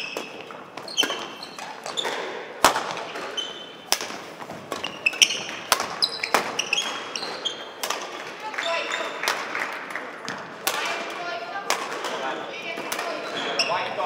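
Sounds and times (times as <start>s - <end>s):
shoes squeaking on court floor: 0.0s - 9.3s, 12.0s - 14.0s
rackets hitting shuttlecock: 0.0s - 13.4s.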